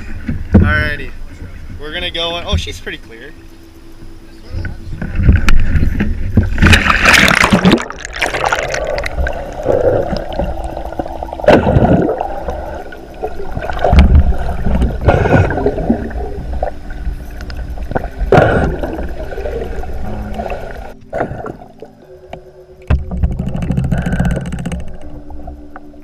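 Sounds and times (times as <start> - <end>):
muffled underwater rushing and bubbling: 4.5 - 26.0
water splashing: 5.0 - 25.9.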